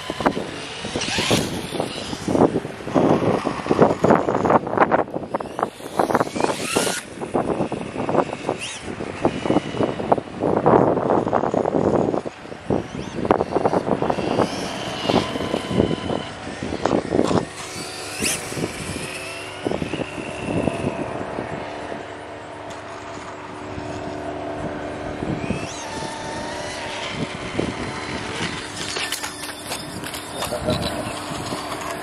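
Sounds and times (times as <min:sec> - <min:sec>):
electric toy motorbike whine: 0:00.0 - 0:32.0.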